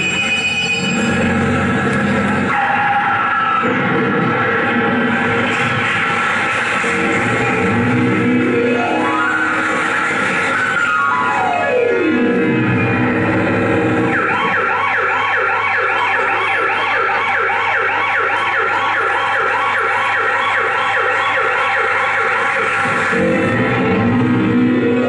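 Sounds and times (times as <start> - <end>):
siren yelp: 2.4 - 25.0.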